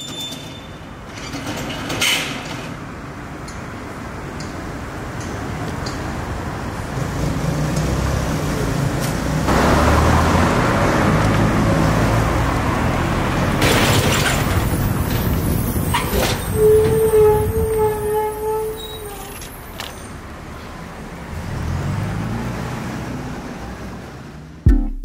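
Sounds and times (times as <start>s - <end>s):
heavy vehicle engine rumbling: 2.8s - 24.6s.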